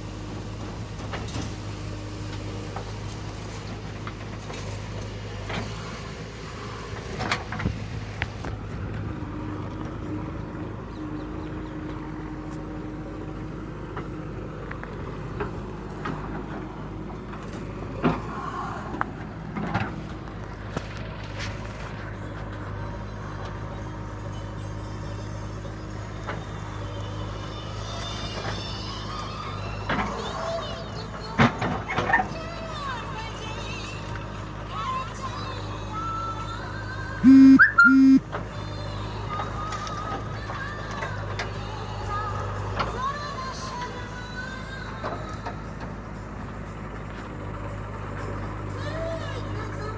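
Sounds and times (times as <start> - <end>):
diesel engine running: 0.0 - 31.4, 32.4 - 49.9.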